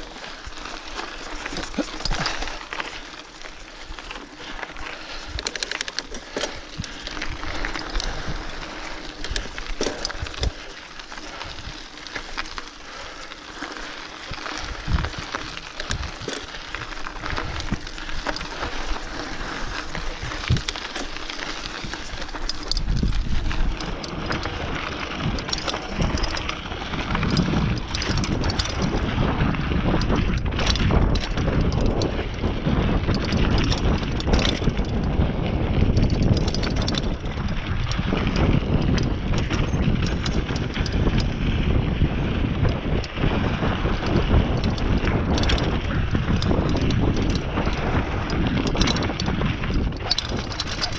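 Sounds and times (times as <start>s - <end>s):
bike rattling and clicking: 0.0s - 50.9s
bike tyres crunching over dirt: 0.0s - 50.9s
wind buffeting microphone: 6.4s - 50.9s.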